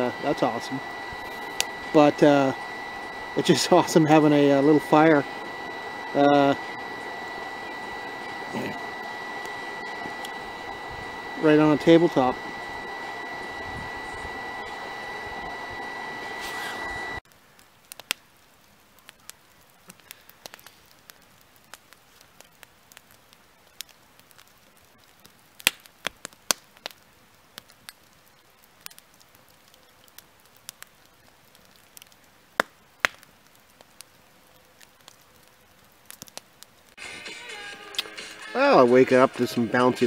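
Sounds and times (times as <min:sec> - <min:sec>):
loud fire cracks: 0:00.0 - 0:37.2
wood fire crackling: 0:00.0 - 0:40.0.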